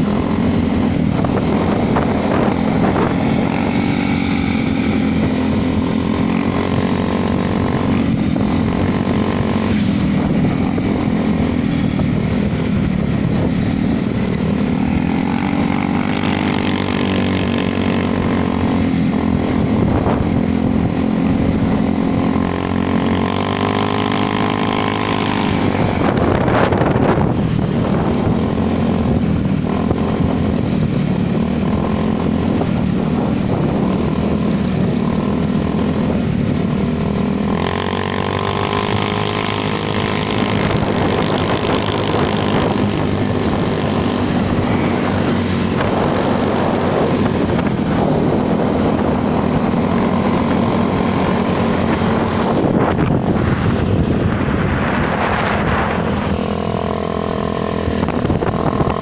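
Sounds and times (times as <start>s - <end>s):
motorcycle engines running: 0.0s - 59.0s
passing motorcycle engine: 0.0s - 59.0s
rushing air noise: 0.0s - 59.0s.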